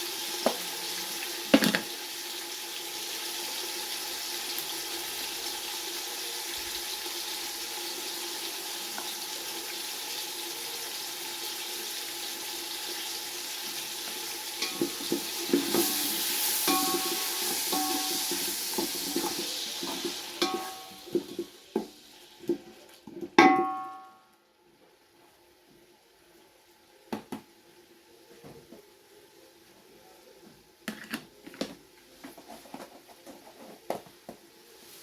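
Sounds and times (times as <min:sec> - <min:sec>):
tomatoes sizzling in oil: 0:00.0 - 0:28.2, 0:33.4 - 0:35.0.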